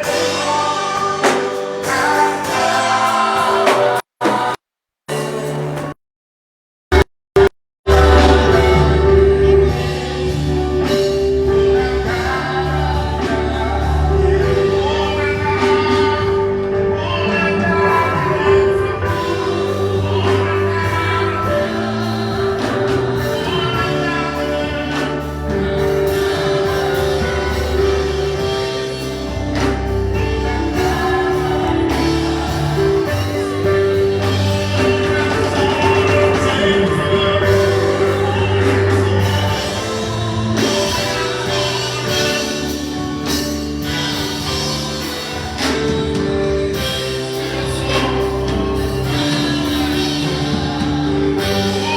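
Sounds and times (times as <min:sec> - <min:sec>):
gospel singing with band: 0:00.0 - 0:04.6, 0:07.9 - 0:51.9.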